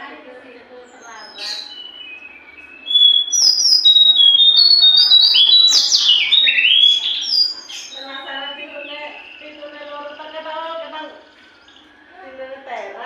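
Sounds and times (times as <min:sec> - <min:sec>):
songbird singing whistled notes: 0:00.7 - 0:12.9.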